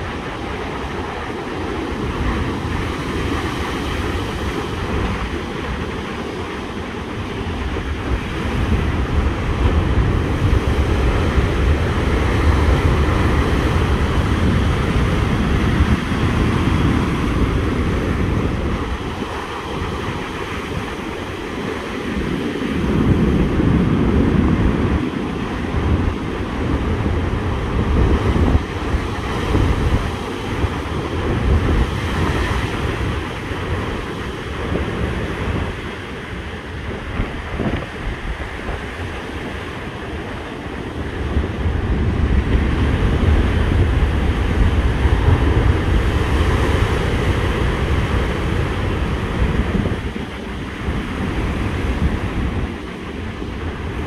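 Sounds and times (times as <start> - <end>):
waves breaking: 0.0 - 54.0
wind buffeting microphone: 0.0 - 54.0.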